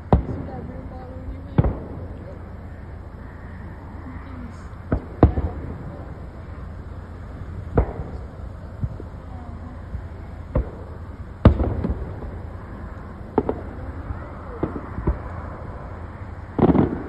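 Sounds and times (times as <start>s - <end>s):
fireworks bangs: 0.0s - 17.0s
fireworks crackle: 0.0s - 17.0s
low rumble: 0.0s - 17.0s.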